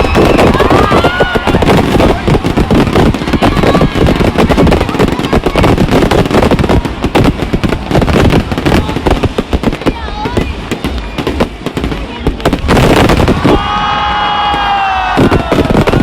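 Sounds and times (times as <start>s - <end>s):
fireworks and firecrackers banging: 0.0s - 16.0s.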